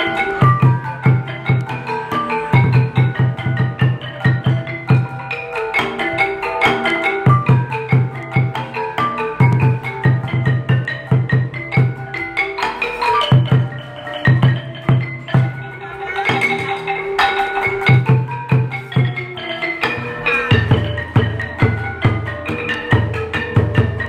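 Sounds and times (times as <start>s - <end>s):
barrel drums beat: 0.0s - 24.0s
xylophone and gong melody: 0.0s - 24.0s.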